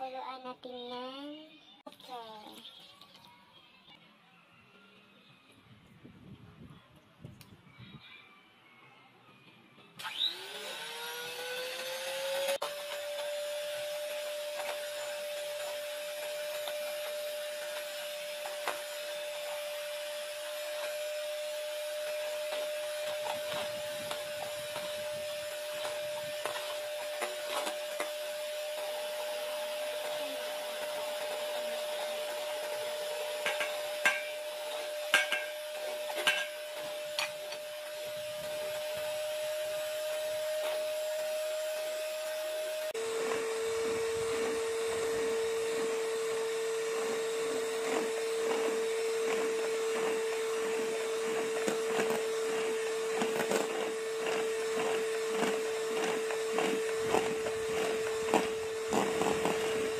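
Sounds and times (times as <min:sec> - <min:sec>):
electric hand mixer whine: 0:09.9 - 0:59.9.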